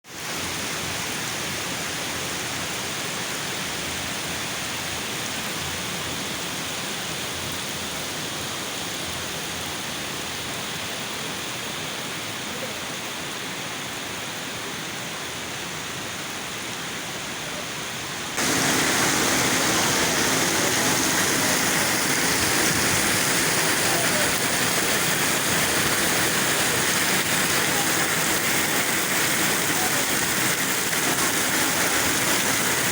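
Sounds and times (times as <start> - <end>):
steady rain hiss: 0.1 - 32.9.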